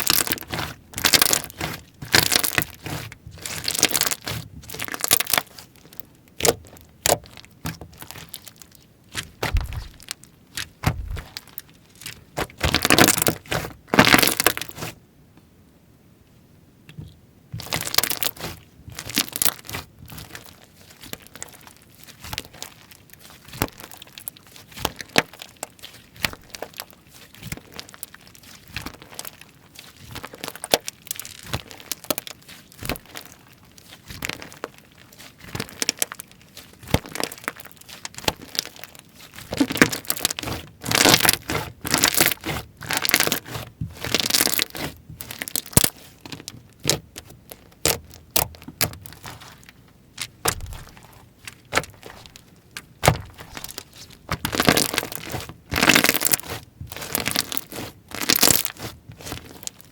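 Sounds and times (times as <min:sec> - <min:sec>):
slime squeezed crackling: 0:00.0 - 0:15.0, 0:17.6 - 0:59.9.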